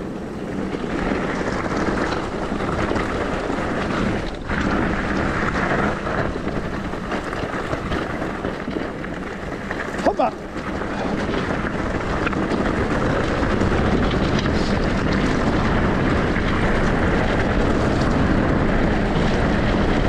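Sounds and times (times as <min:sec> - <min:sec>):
e-bike running noise: 0:00.0 - 0:20.0
wind on microphone: 0:00.0 - 0:20.0.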